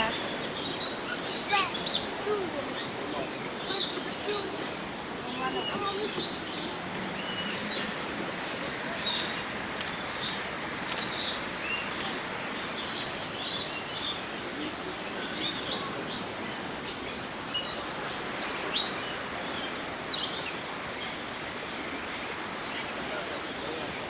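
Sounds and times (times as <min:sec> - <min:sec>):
birds chirping: 0:00.0 - 0:24.0
steady background hiss: 0:00.0 - 0:24.0.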